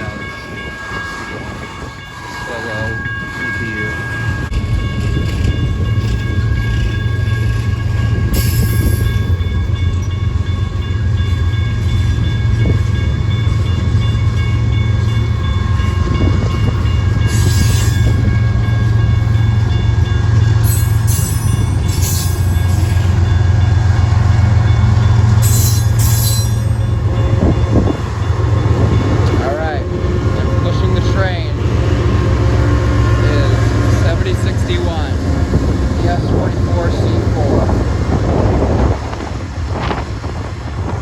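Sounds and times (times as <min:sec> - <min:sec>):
freight train rumbling on rails: 0:00.0 - 0:41.0.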